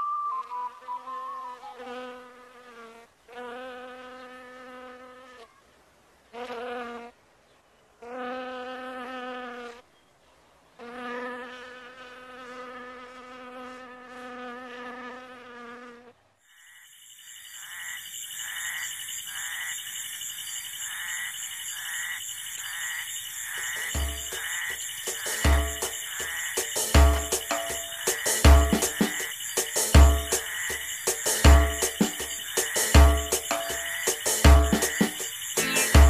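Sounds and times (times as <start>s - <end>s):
buzzing insect-like tone: 0.0s - 5.5s, 10.8s - 36.0s.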